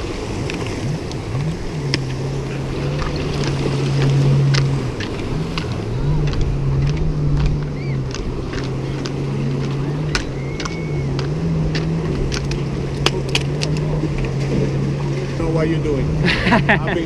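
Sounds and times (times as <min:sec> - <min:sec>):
motorboat engine droning: 0:00.0 - 0:17.0.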